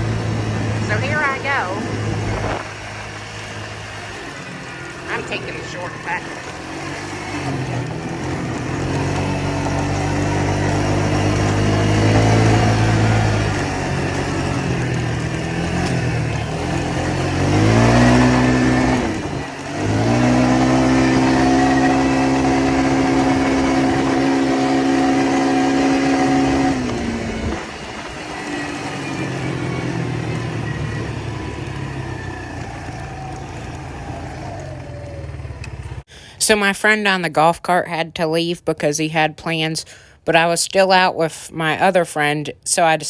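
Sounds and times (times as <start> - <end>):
four-wheeler engine revving: 0.0 - 36.1.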